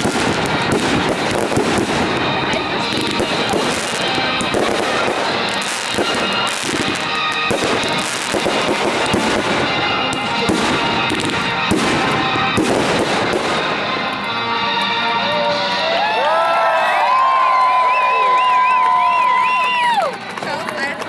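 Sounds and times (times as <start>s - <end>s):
fireworks crackling and popping: 0.0s - 15.8s, 17.5s - 21.0s
music playing: 0.0s - 21.0s.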